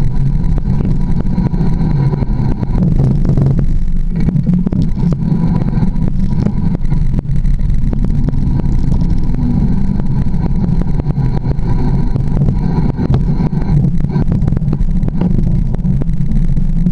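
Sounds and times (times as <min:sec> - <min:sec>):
bike tyre rumbling on dirt: 0:00.0 - 0:16.9.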